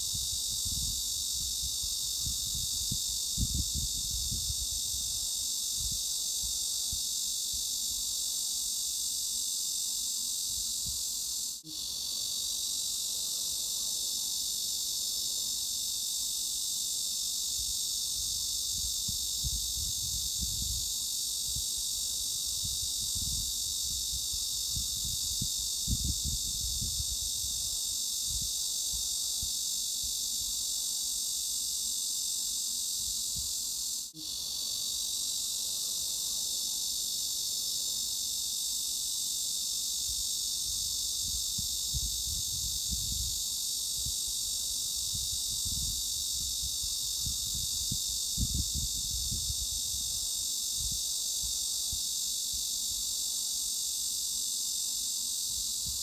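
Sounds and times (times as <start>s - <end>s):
cicada chorus buzzing: 0.0s - 56.0s.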